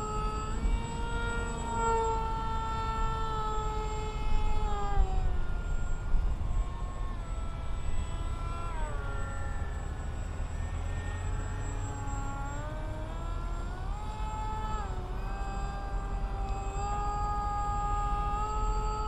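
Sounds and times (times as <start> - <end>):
model plane motor whine: 0.0 - 19.0
wind rumble on microphone: 0.0 - 19.0.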